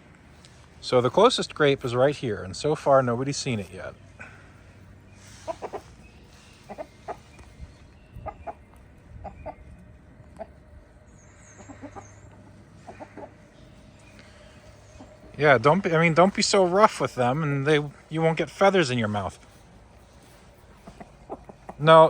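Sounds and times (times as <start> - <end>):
hens clucking: 3.0 - 22.0.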